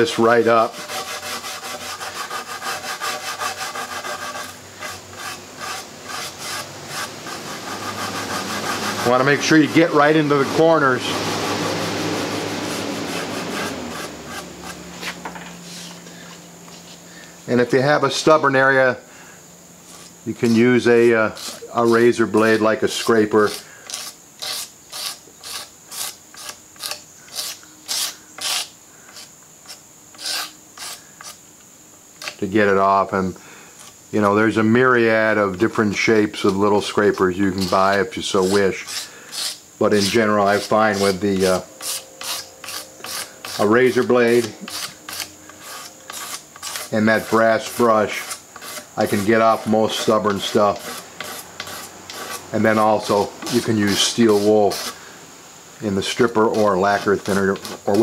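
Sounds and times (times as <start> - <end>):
razor blade scraping wood: 0.0 - 17.0, 19.8 - 31.4, 32.2 - 32.6, 35.3 - 55.1, 55.8 - 58.0
wire brush scrubbing wood: 0.0 - 18.7, 19.8 - 31.4, 34.2 - 55.1, 55.8 - 58.0.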